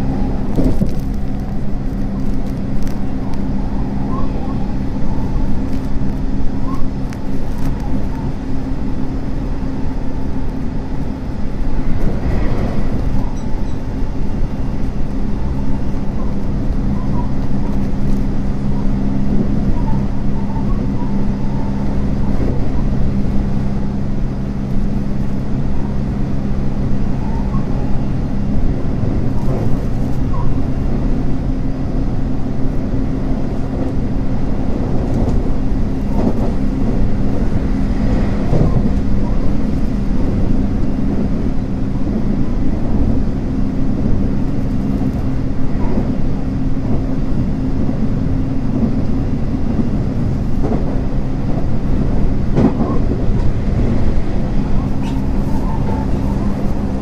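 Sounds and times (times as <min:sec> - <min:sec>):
traction motor hum: 0:00.0 - 0:57.0
train wheels rumbling on rail: 0:00.0 - 0:57.0.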